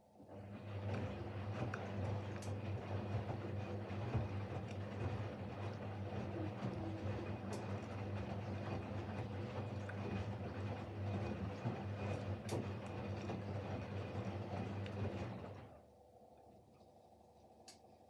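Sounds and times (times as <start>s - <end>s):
washing machine motor hum: 0.2s - 16.0s.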